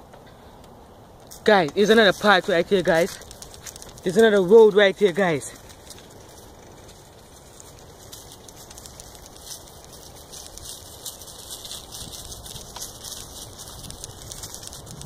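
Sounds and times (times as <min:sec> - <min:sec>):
bicycle tyres rolling over leaves: 0:01.1 - 0:15.0.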